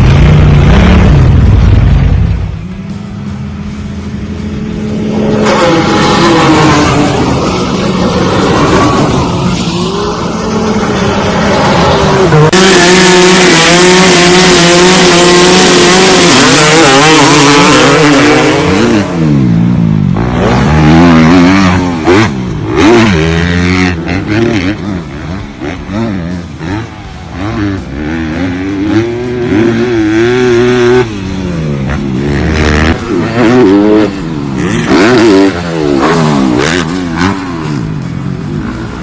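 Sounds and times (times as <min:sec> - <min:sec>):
off-road vehicle engines revving: 0:00.0 - 0:39.0.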